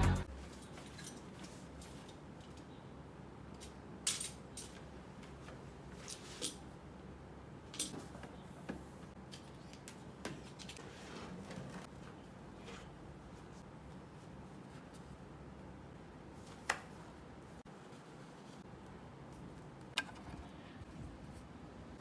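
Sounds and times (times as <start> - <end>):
quiet background hum: 0.0 - 22.0.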